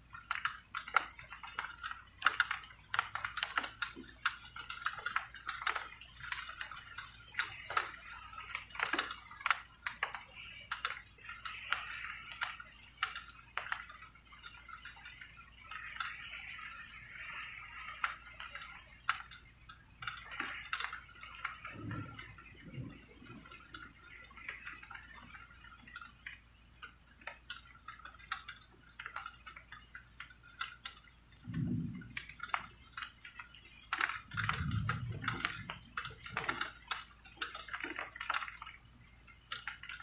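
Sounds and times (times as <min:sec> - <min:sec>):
faint rain patter: 0:00.0 - 0:40.0
raindrops ticking: 0:00.0 - 0:40.0.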